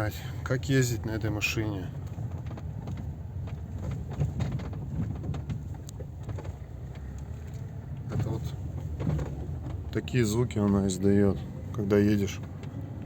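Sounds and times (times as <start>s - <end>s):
road and engine rumble: 0.0s - 13.0s
car interior creaks and knocks: 1.4s - 13.0s.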